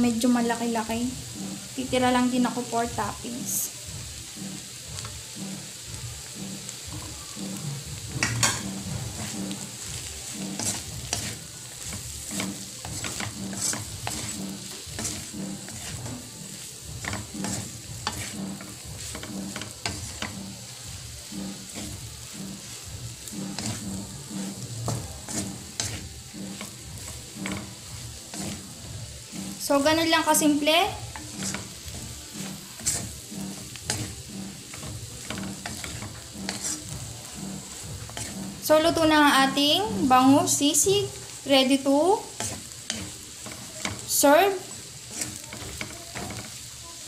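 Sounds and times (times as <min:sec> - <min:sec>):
frying sizzle: 0:00.0 - 0:47.0
spatula scraping wok: 0:00.0 - 0:47.0
spatula knocking pan: 0:04.3 - 0:40.0, 0:41.7 - 0:46.7.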